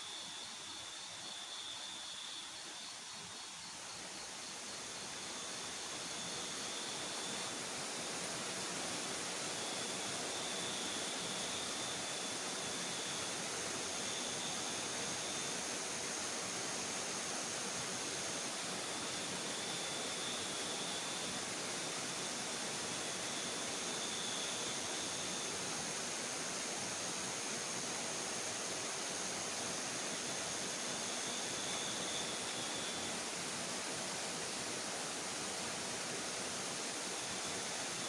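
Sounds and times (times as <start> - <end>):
river rushing: 5.3 - 38.0.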